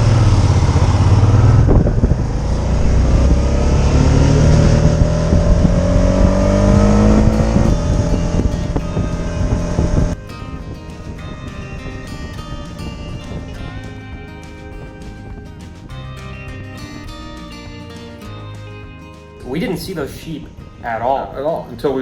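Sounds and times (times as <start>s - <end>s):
motorcycle engine accelerating: 0.0s - 17.8s
wind rumble: 0.0s - 18.2s.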